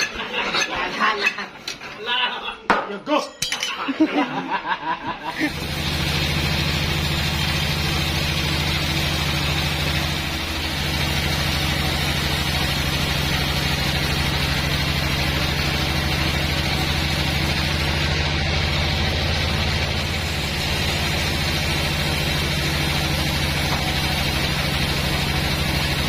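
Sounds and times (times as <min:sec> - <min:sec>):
bandsaw sawmill running: 0:00.0 - 0:01.8, 0:05.3 - 0:26.0.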